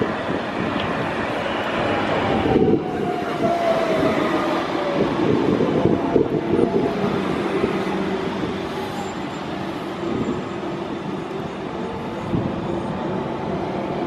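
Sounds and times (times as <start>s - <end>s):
wheels rumbling on rails: 0.0s - 14.0s.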